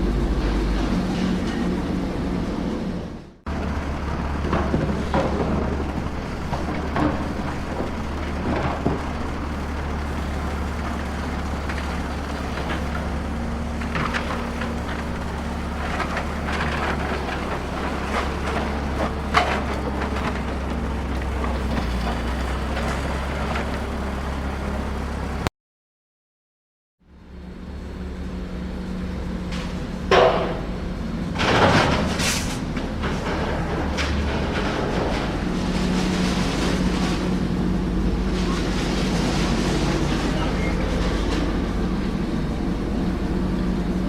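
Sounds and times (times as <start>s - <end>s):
excavator engine drone: 0.0s - 25.5s, 27.1s - 44.0s
clatter of dirt and stones: 3.5s - 24.4s, 29.4s - 44.0s.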